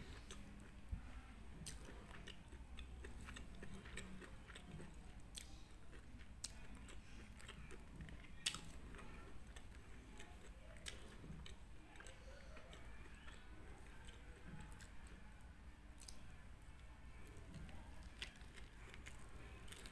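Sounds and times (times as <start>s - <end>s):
close-up chewing: 0.0s - 19.9s.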